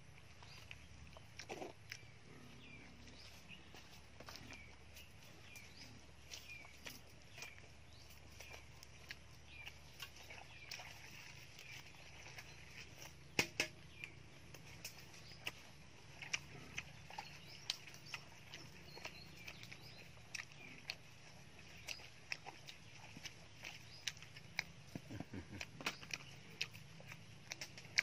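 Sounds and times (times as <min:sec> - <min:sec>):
man chewing with wet smacks: 0:00.0 - 0:28.0
faint chirping: 0:00.1 - 0:28.0.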